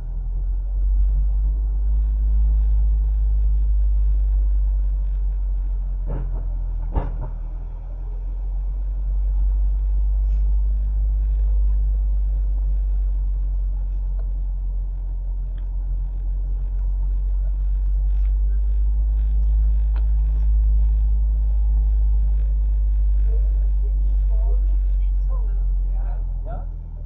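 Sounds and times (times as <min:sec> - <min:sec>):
car engine rumble: 0:00.0 - 0:27.0
road noise: 0:00.0 - 0:27.0.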